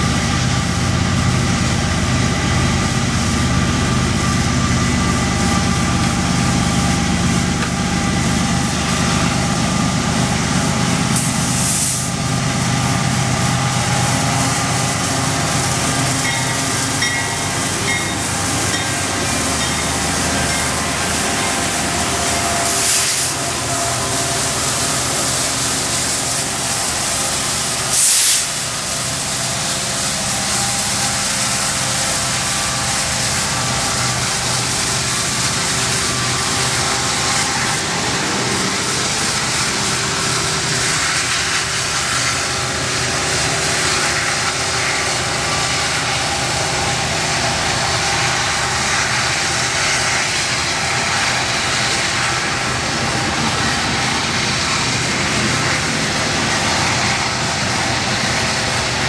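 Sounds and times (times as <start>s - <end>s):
diesel locomotives passing: 0.0s - 59.0s
train wheels on rails: 0.0s - 59.0s
loud hissing bursts: 10.1s - 59.0s.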